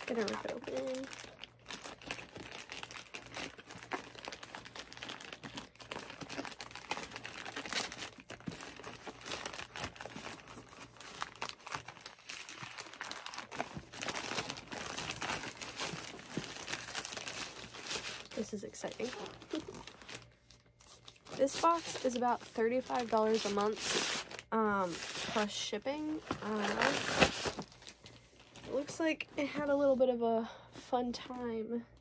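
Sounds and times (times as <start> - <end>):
plastic bag crinkling and tearing: 0.0 - 29.0.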